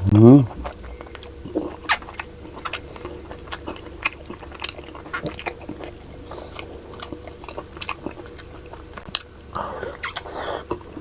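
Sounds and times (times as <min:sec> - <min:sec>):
person chewing food: 0:00.5 - 0:11.0.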